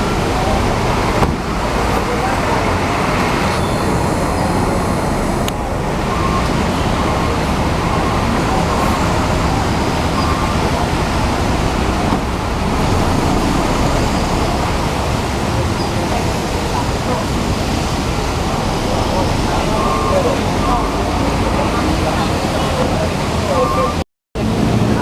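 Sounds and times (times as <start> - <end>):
bus engines running: 0.0 - 25.0
rain falling: 0.0 - 25.0.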